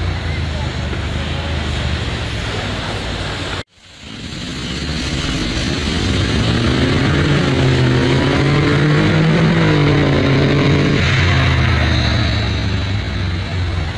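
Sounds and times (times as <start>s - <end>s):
motorcycle engine accelerating: 0.0s - 13.9s.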